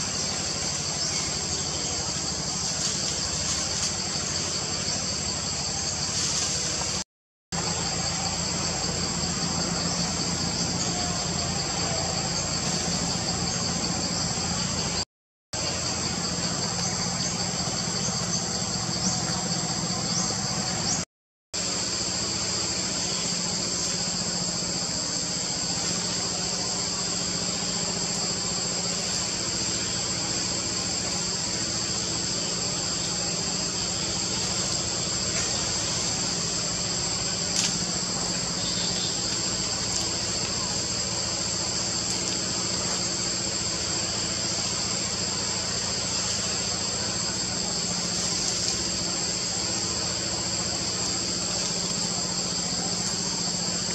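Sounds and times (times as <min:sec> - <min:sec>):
insect chorus buzzing: 0:00.0 - 0:53.9.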